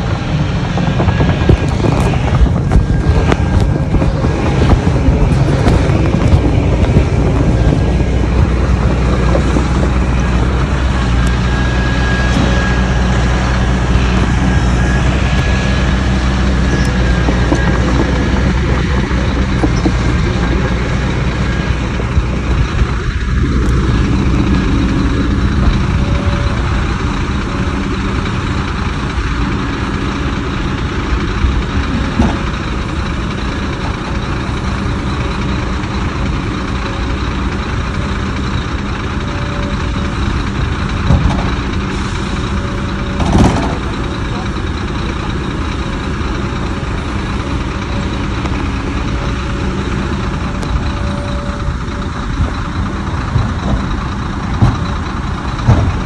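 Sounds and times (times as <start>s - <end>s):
diesel machinery engine drone: 0.0s - 56.0s.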